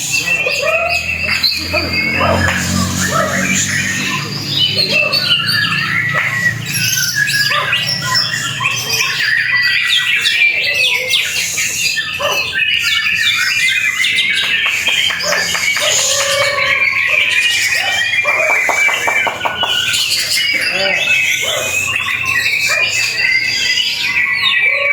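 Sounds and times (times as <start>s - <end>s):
birds singing whistles and trills: 0.0s - 24.9s.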